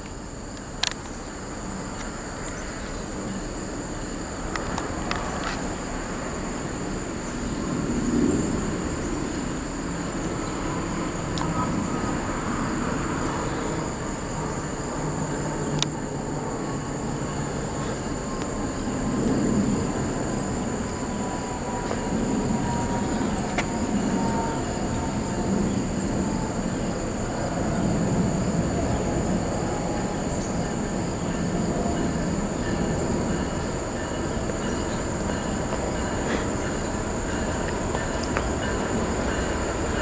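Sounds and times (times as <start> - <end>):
freight train rumbling on rails: 0.0 - 40.0.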